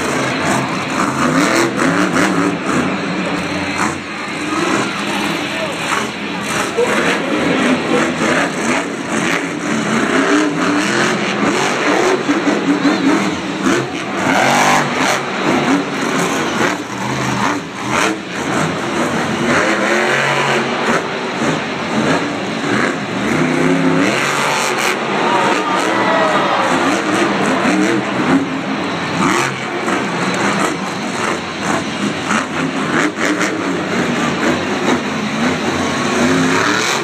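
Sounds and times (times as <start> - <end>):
monster truck engines revving: 0.0 - 37.0.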